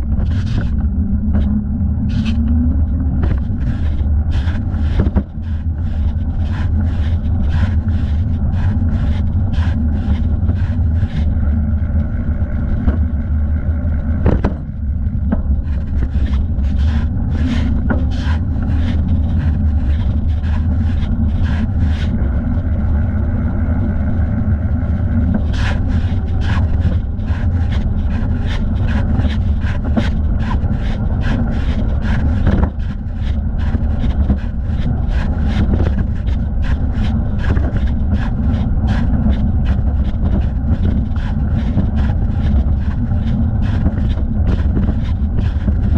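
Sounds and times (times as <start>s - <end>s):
wind and rolling noise: 0.0s - 45.9s.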